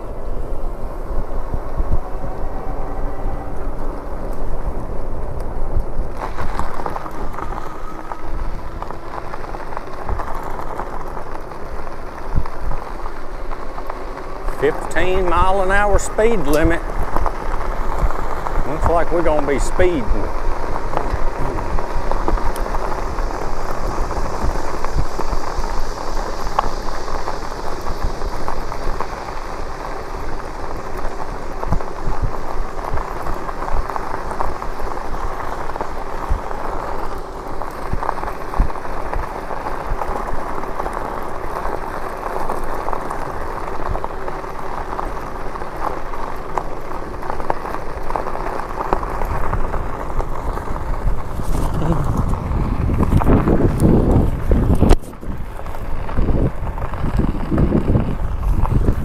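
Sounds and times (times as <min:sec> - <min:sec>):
tyres rolling on road: 0:00.0 - 0:59.0
wind buffeting microphone: 0:00.0 - 0:59.0.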